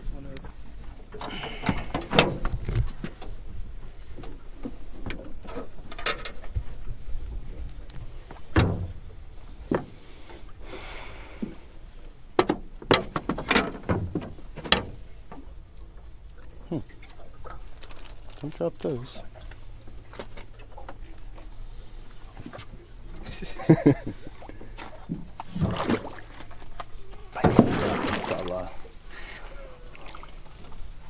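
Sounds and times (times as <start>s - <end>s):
high insect drone: 0.0s - 31.0s
knocks and clunks of gear in boat: 0.2s - 10.6s, 12.2s - 31.0s.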